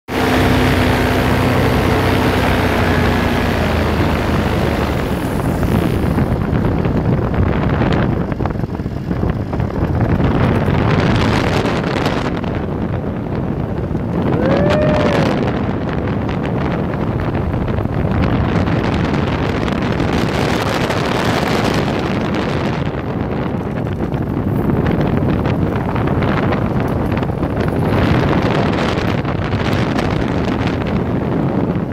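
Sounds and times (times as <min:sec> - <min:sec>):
paramotor engine and propeller: 0:00.1 - 0:31.9
wind noise on microphone: 0:00.1 - 0:31.9.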